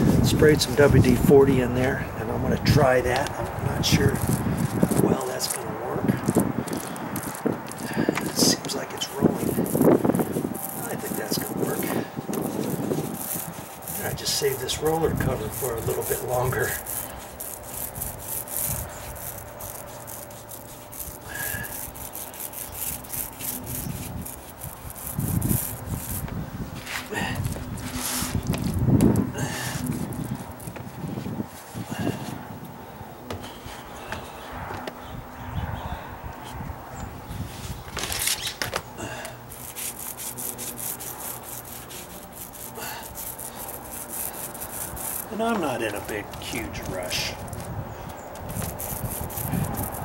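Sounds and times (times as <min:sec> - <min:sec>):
paint roller rolling on wood: 0:00.0 - 0:32.4, 0:39.4 - 0:50.0.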